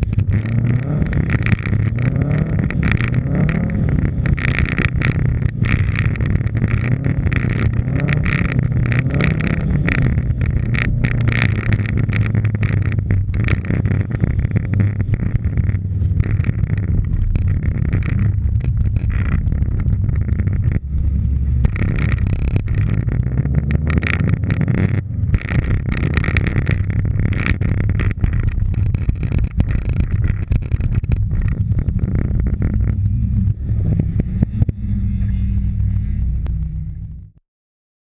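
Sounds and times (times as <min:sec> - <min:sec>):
car engine running hard: 0:00.0 - 0:37.4
sharp clicks and pops: 0:00.0 - 0:37.4.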